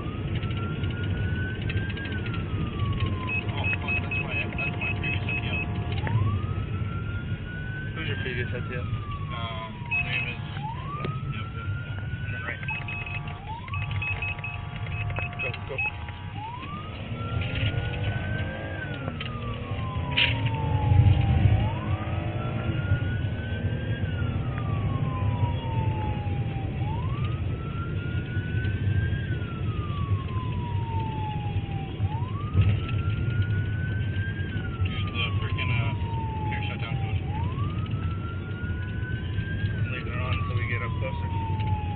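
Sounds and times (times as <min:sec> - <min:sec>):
engine and road rumble: 0:00.0 - 0:41.9
other sirens: 0:00.0 - 0:41.9
police siren wailing: 0:00.0 - 0:41.9.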